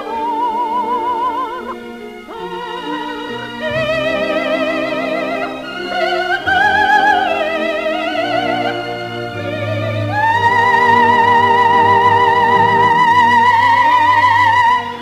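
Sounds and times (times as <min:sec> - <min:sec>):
operatic soprano singing: 0:00.0 - 0:15.0
orchestra: 0:00.0 - 0:15.0.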